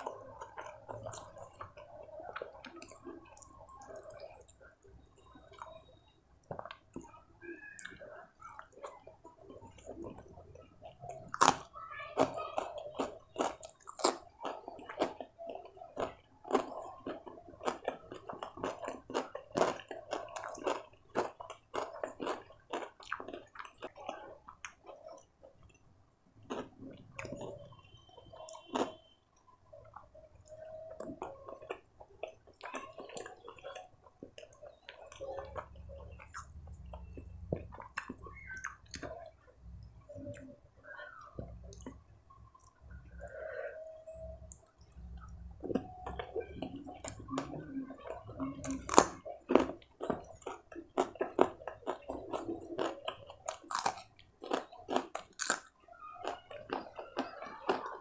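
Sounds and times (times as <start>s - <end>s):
open-mouthed wet chewing: 0.0s - 58.0s.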